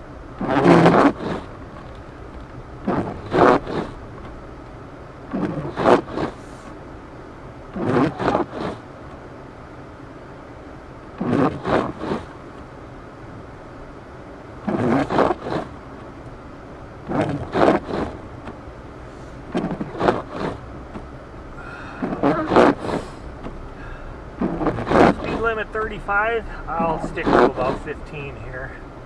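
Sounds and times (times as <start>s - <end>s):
car driving hum: 0.0s - 29.0s
wipers scraping snowy windshield: 0.3s - 4.6s, 5.2s - 6.8s, 7.6s - 9.5s, 11.0s - 12.7s, 14.6s - 29.0s.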